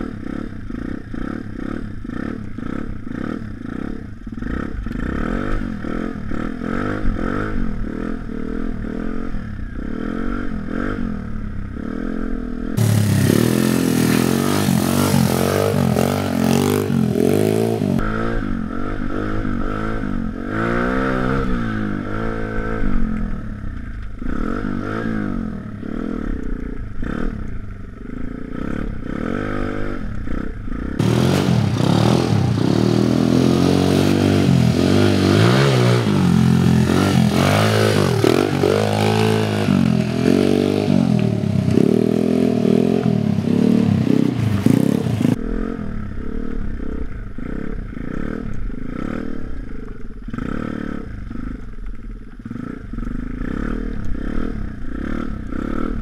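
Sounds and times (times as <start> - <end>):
motorbike engine revving: 0.0 - 23.6, 24.2 - 49.6
motorcycle approaching: 0.0 - 56.0.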